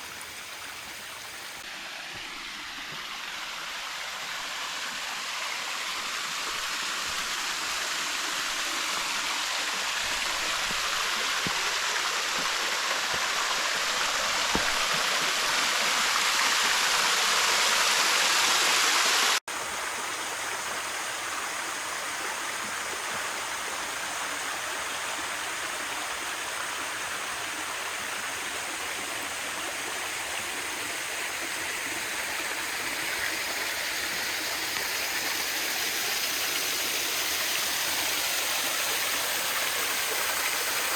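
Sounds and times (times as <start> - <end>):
creek water rushing over rocks: 0.0 - 40.9.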